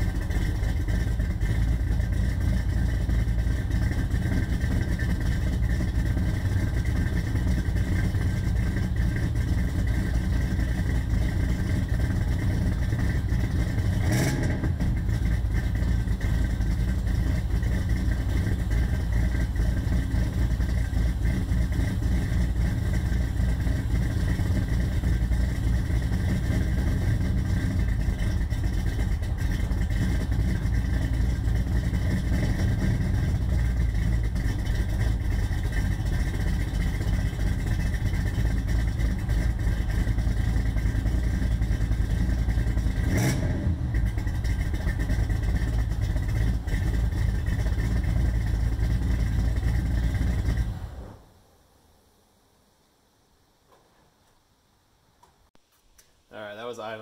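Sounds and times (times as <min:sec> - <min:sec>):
car engine idling: 0:00.0 - 0:52.3.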